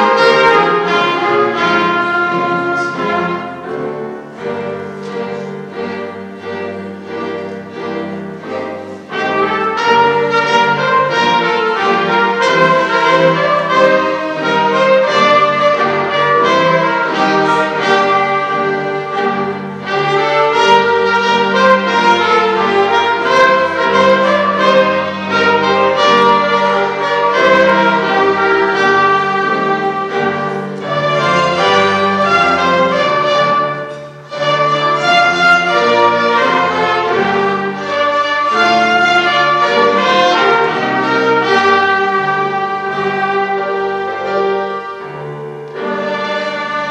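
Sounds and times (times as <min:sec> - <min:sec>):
piano: 0:00.0 - 0:46.9
string ensemble playing: 0:00.0 - 0:46.9.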